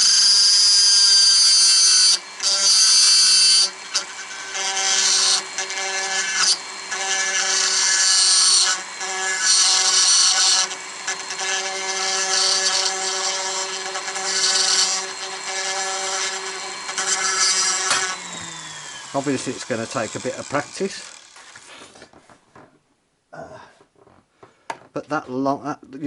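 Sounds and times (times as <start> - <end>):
rotary tool bur grinding: 0.0 - 22.2.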